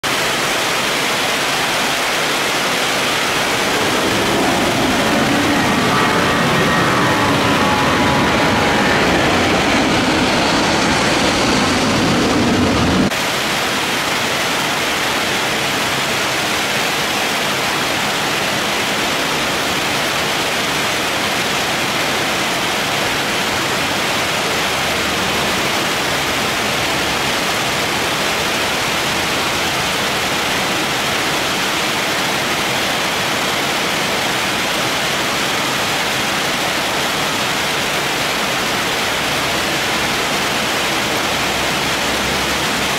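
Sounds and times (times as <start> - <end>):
airliner jet engines: 0.0 - 42.9
heavy rain hissing: 0.0 - 42.9.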